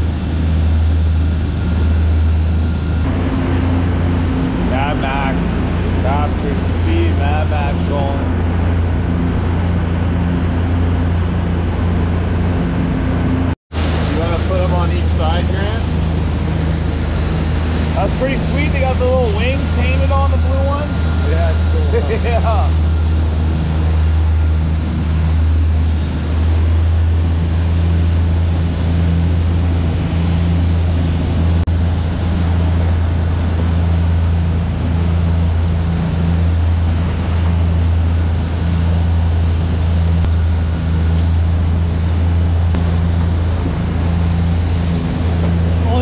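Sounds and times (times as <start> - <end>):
boat engines droning: 0.0 - 46.0
wake rushing: 0.0 - 46.0
wind: 0.0 - 46.0.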